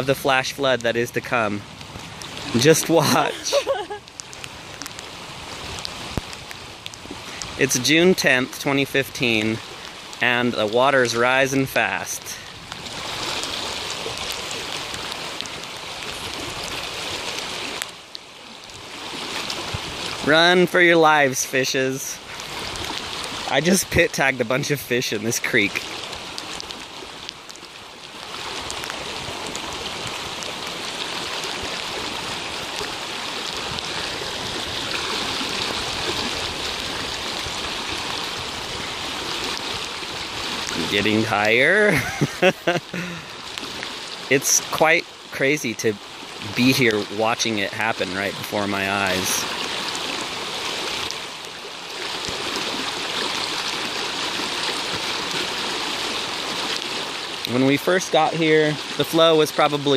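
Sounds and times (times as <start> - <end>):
flooded creek roaring: 0.0 - 59.9.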